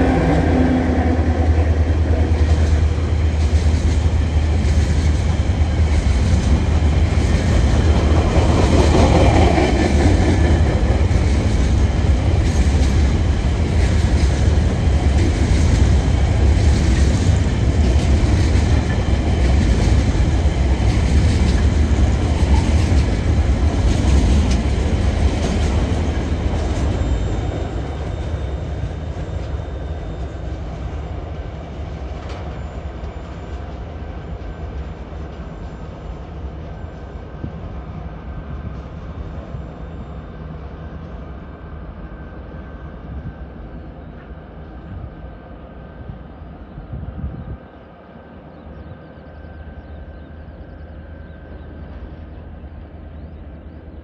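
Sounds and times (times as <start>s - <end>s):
diesel locomotive engine: 0.0s - 54.0s
freight train rumbling past: 0.0s - 54.0s.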